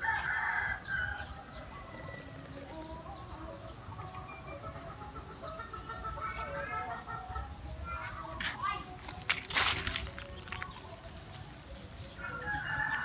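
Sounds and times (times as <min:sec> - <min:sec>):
birds clucking: 0:00.0 - 0:13.0.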